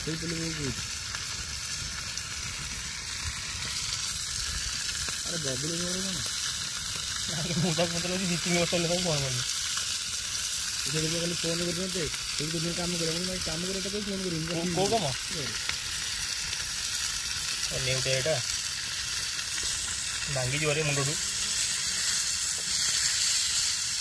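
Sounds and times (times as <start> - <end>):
fish sizzling in a pan: 0.0 - 24.0.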